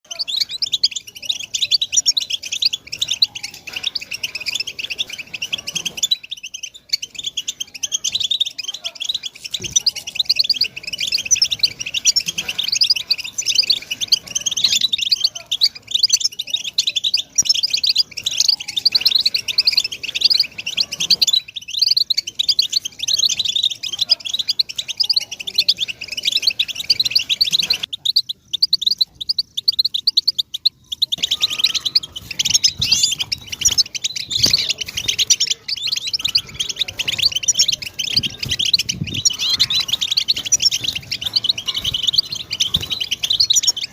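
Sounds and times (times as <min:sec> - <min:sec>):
bird twittering song: 0:00.0 - 0:43.9.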